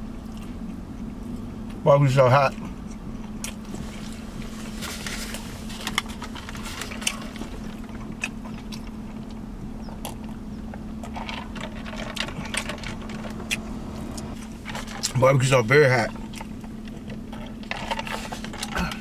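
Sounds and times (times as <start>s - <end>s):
steady low hum: 0.0s - 19.0s
chewing: 2.5s - 15.2s, 16.0s - 19.0s.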